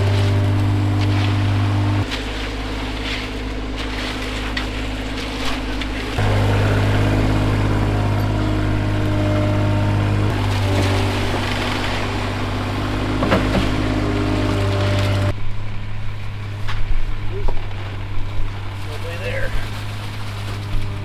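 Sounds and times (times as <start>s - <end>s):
heavy engine running: 0.0s - 21.0s.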